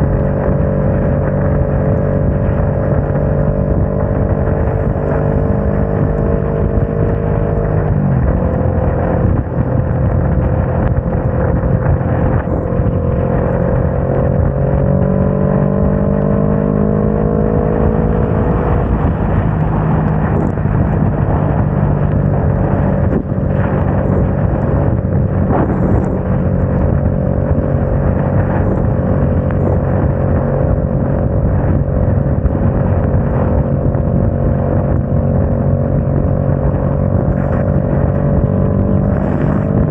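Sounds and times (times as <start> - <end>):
motorcycle engine running: 0.0 - 39.9
wet road noise: 0.0 - 39.9
wind rushing: 0.0 - 39.9.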